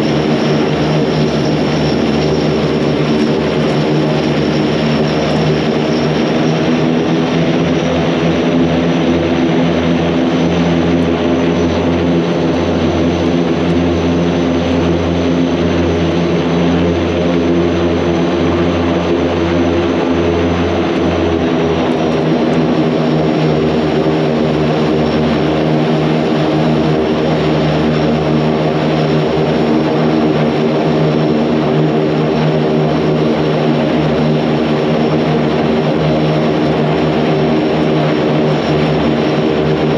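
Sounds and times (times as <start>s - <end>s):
high engine whine: 0.0s - 39.9s
propeller hum: 0.0s - 39.9s.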